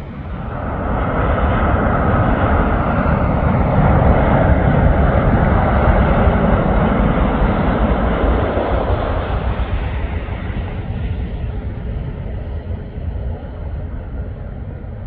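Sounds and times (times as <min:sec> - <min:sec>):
jet airliner engine rumble: 0:00.0 - 0:15.0.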